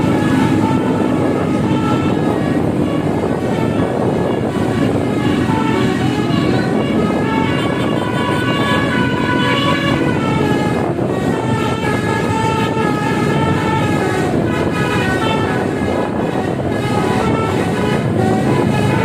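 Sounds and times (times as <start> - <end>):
bus air horns playing melody: 0.0 - 19.0.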